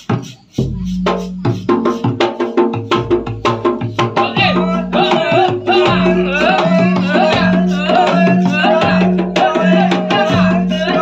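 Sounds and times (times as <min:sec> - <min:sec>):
percussion ensemble music: 0:00.0 - 0:11.0.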